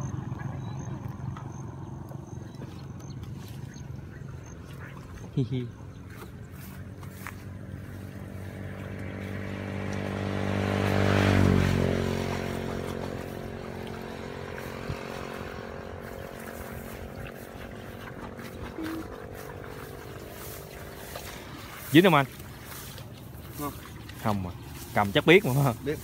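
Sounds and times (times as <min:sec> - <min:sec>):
motor engine passing by: 0:00.0 - 0:26.0.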